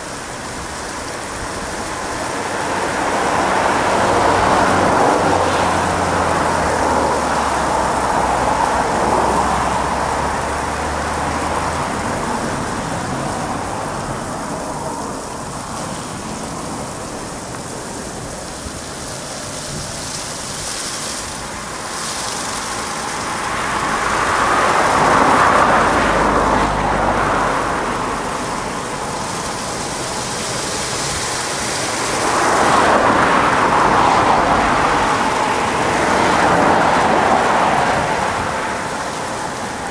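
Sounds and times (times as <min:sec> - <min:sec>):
water spraying onto car: 0:00.0 - 0:39.9.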